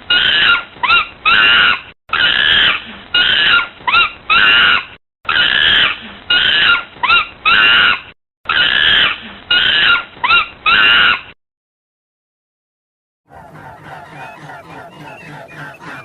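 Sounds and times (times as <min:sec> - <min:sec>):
animal high-pitched cries: 0:00.1 - 0:11.4, 0:13.3 - 0:16.0.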